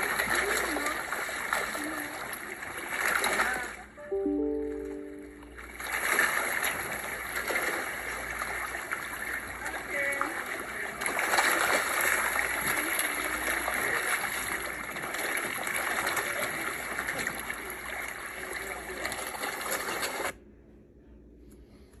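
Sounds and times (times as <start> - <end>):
fish thrashing and splashing in water: 0.0 - 3.8, 5.9 - 20.3.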